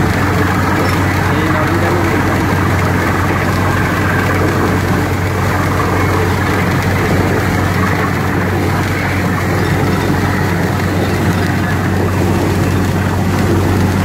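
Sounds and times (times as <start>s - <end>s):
drilling rig engine droning: 0.0s - 14.0s
water gushing: 0.0s - 14.0s.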